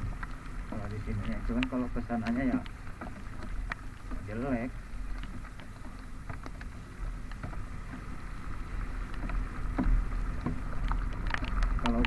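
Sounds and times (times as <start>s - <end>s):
small clicks and knocks: 0.0s - 12.0s.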